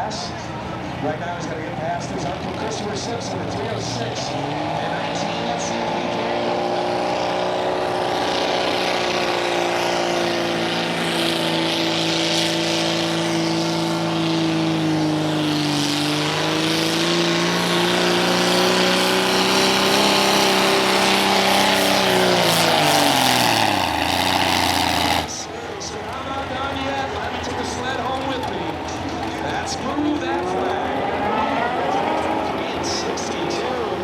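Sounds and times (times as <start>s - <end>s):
engine at high revs: 0.0s - 34.0s.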